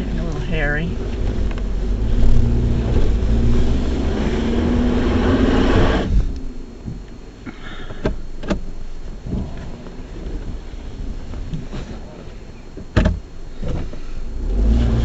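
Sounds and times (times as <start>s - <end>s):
car engine working hard: 0.0s - 15.0s.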